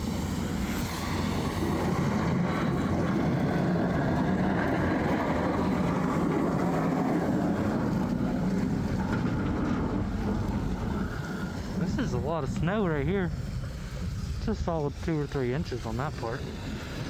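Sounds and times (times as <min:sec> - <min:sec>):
pickup truck engine rumble: 0:00.0 - 0:17.0
plow scraping road: 0:00.0 - 0:17.0.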